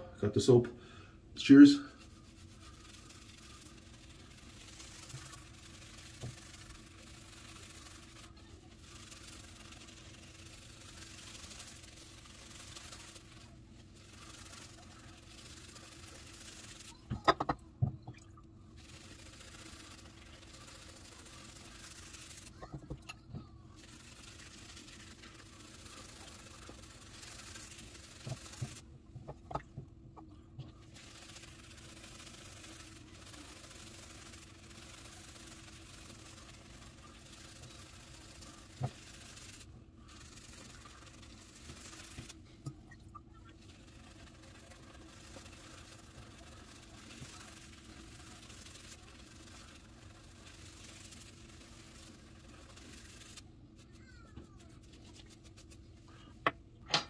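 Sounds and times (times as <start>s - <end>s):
steady low hum: 0.0s - 57.0s
shaving brush swirling lather: 1.4s - 17.9s, 18.6s - 29.7s, 30.6s - 56.4s.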